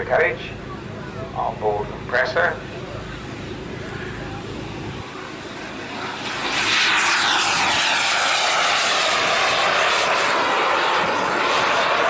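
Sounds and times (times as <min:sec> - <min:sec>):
model jet engine whine: 0:00.0 - 0:12.0.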